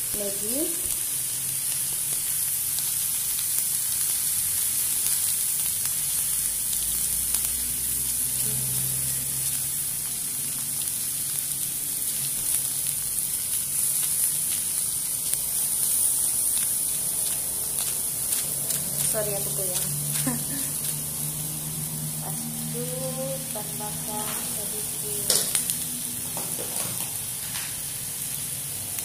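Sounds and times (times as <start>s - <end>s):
vegetables sizzling in a wok: 0.0s - 29.0s.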